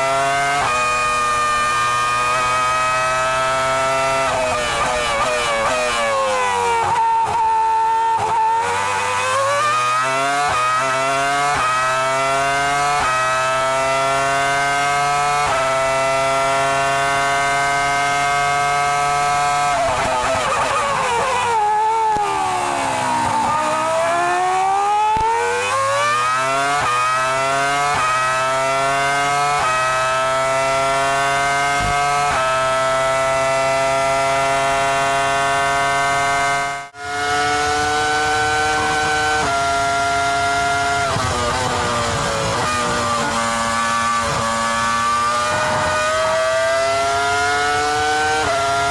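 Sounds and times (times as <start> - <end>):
racing car engine revving: 0.0 - 48.9.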